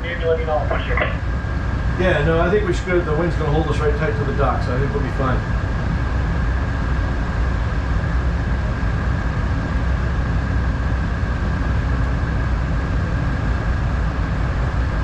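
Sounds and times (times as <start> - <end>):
diesel engines rumbling: 0.0 - 15.0
high engine whine: 0.0 - 15.0.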